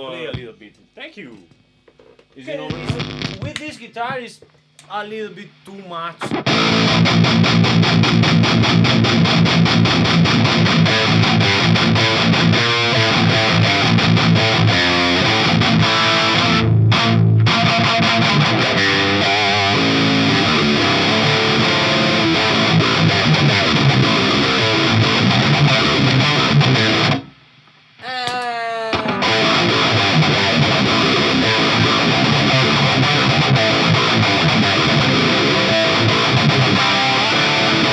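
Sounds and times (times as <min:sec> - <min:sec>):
distorted electric guitar riffs: 0:02.7 - 0:03.5, 0:05.5 - 0:27.3, 0:28.1 - 0:37.9.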